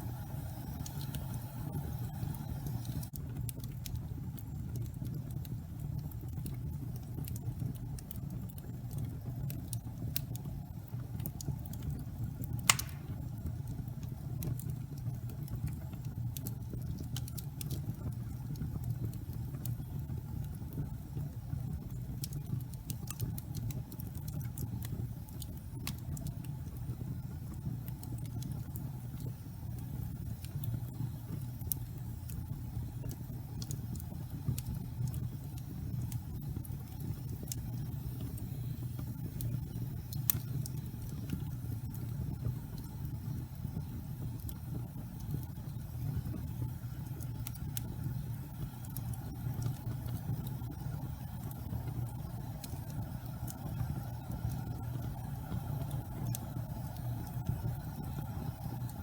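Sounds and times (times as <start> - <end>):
fire crackling and popping: 0.0 - 59.0
low rumble of fire: 0.0 - 59.0.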